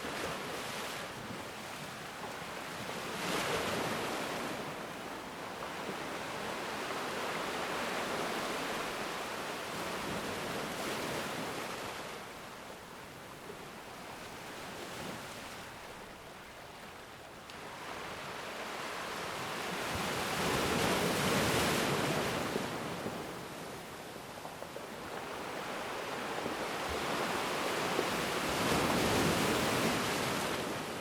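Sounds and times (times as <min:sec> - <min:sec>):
ocean waves breaking on shore: 0:00.0 - 0:31.0.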